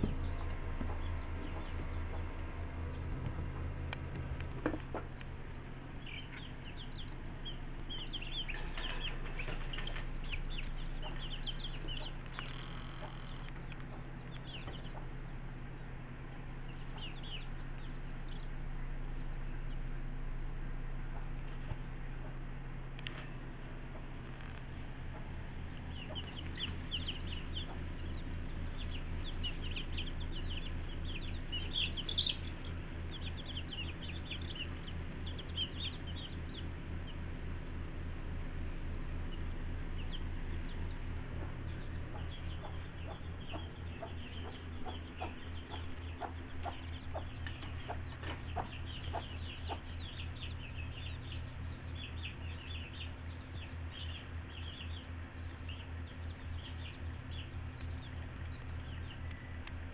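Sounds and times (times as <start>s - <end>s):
chicks peeping: 0.0s - 59.9s
steady low hum: 0.0s - 59.9s.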